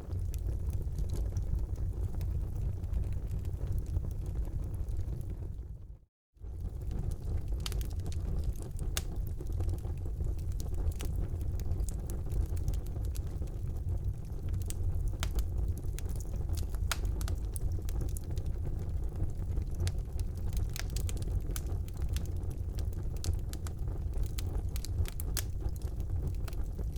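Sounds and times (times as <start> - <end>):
logs crackling and popping: 0.0 - 5.6, 6.5 - 26.9
wood fire rumbling: 0.0 - 26.9.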